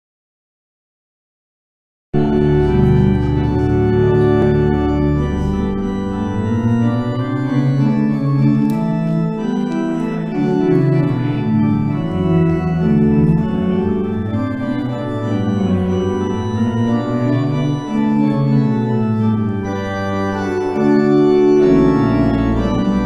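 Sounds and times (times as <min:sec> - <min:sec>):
church organ chords: 0:02.2 - 0:23.0
deep organ pedal bass note: 0:02.2 - 0:23.0.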